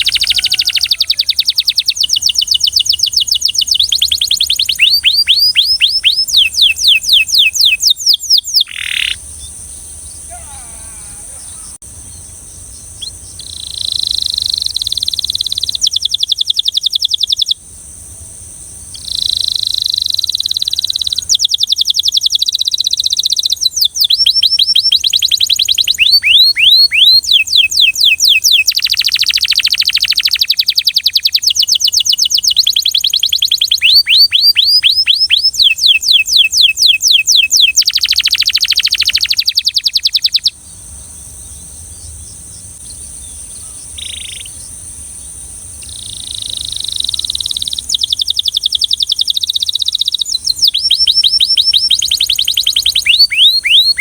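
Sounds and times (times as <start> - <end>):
canary singing trills: 0.0 - 17.6, 18.9 - 54.0.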